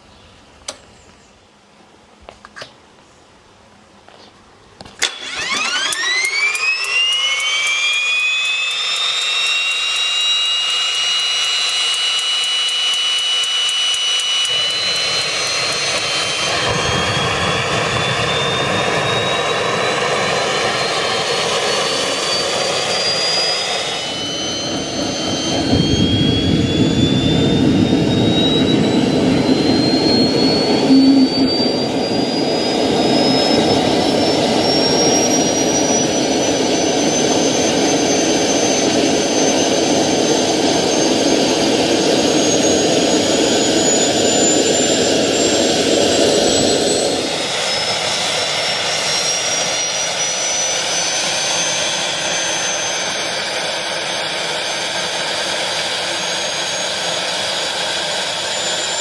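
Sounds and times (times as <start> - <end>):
gas turbine engine roaring: 4.8 - 59.0
turbine high whine: 4.8 - 59.0.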